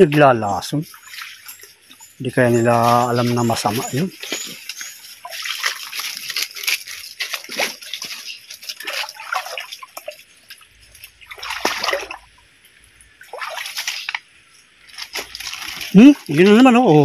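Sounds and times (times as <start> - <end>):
water splashing in creek: 0.0 - 17.0.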